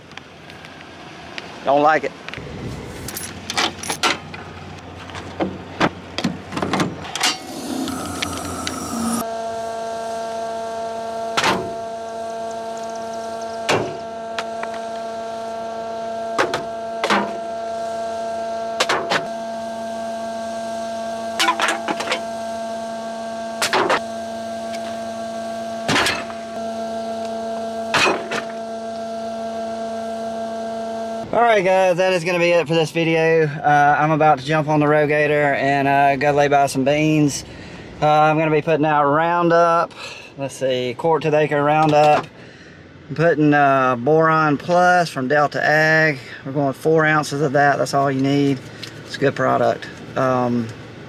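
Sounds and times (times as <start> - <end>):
steady machine hum: 0.0 - 51.0.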